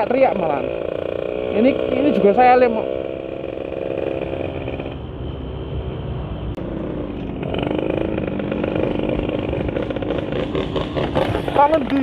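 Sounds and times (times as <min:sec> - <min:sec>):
two-stroke motorcycle engine running: 0:00.0 - 0:05.0, 0:06.6 - 0:12.0.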